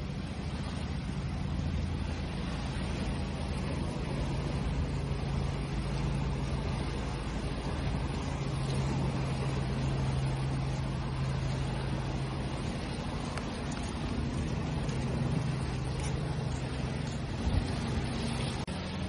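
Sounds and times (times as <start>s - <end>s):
low motor hum: 0.0s - 19.0s
waves rushing: 0.0s - 19.0s.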